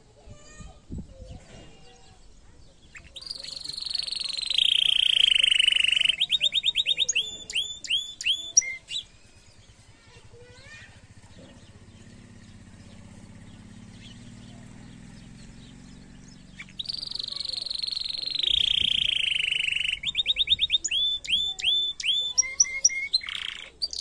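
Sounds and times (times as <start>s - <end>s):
canary singing: 2.7s - 24.0s.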